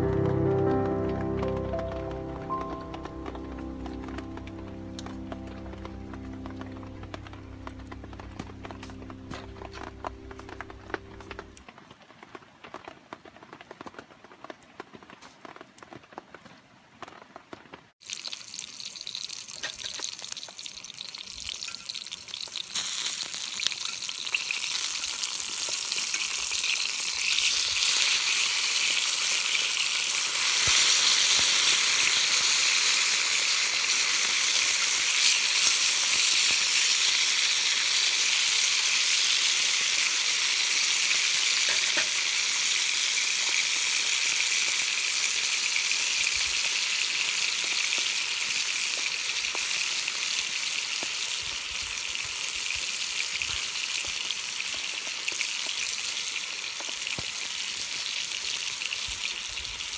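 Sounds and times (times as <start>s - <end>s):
food sizzling in a frying pan: 0.0s - 11.6s, 18.0s - 59.9s.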